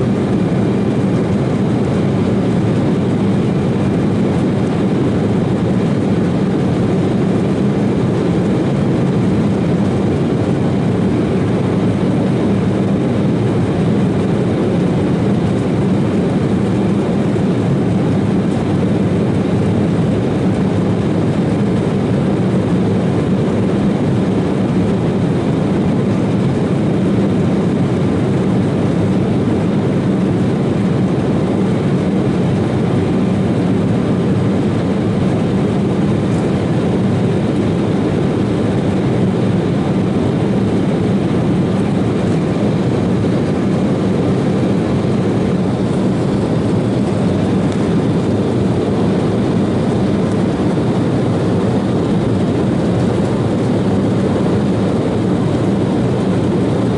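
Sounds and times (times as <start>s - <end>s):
jet engines in cabin: 0.0s - 56.9s.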